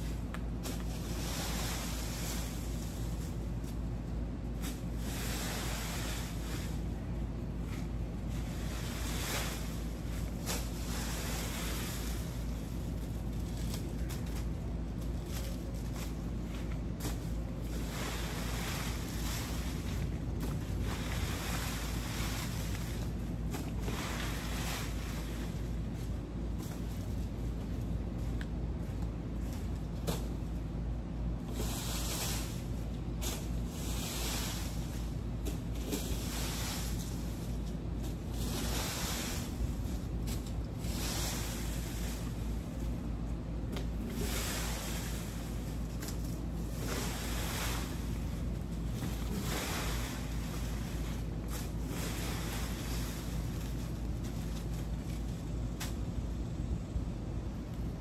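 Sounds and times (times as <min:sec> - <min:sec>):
low outdoor rumble: 0:00.0 - 0:58.0
rake scraping leaves on dirt: 0:00.0 - 0:58.0
steady low hum: 0:00.0 - 0:58.0.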